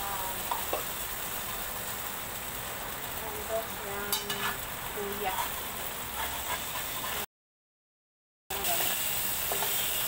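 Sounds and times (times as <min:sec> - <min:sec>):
food sizzling in a pan: 0:00.0 - 0:07.3, 0:08.5 - 0:10.0.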